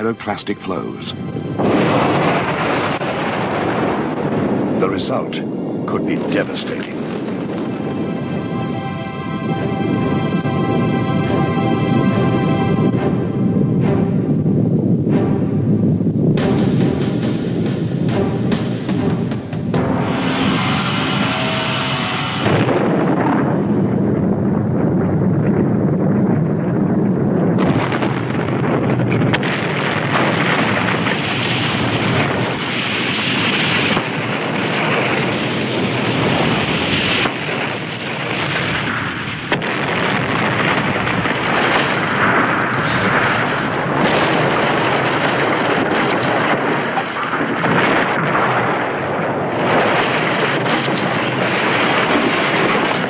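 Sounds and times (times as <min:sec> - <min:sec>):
explosive blasts: 0:00.0 - 0:53.0
volcano roaring and rumbling: 0:00.0 - 0:53.0.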